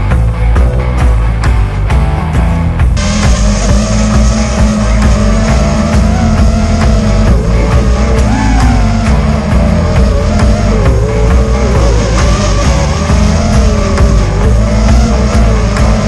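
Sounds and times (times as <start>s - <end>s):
loud rock music: 0.0s - 16.0s.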